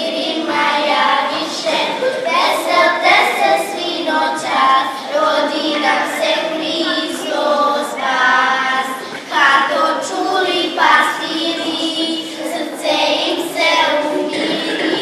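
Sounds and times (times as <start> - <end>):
children singing folk song: 0.0 - 15.0.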